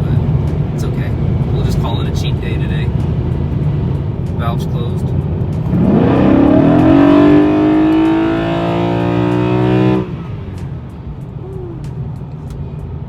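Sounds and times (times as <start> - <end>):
car engine accelerating hard: 0.0 - 12.1
road noise: 0.0 - 13.0.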